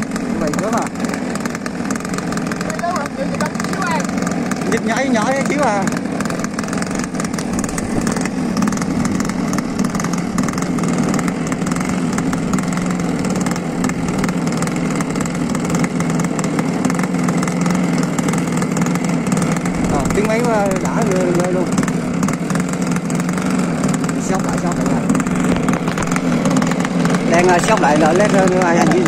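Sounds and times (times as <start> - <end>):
small model engine running: 0.0 - 29.0.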